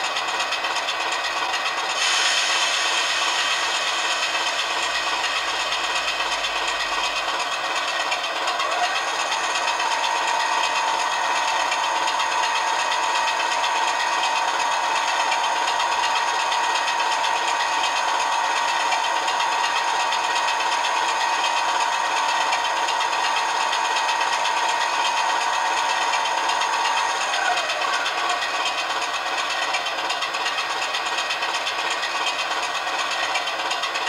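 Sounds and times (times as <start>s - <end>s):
diesel engine through small speaker: 0.0s - 34.0s.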